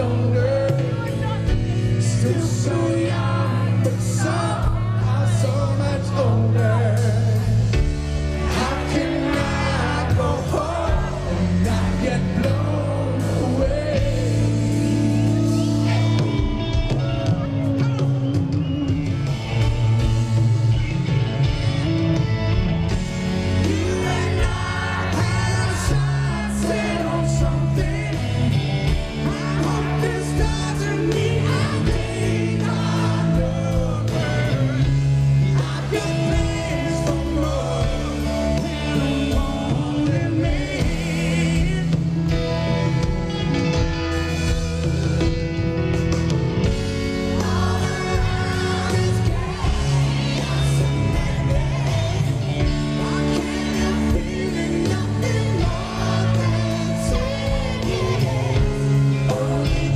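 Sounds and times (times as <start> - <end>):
man singing lead vocal: 0.0 - 21.1, 22.9 - 45.4, 46.6 - 59.9
backing singers: 0.0 - 59.9
live rock band playing: 0.0 - 59.9.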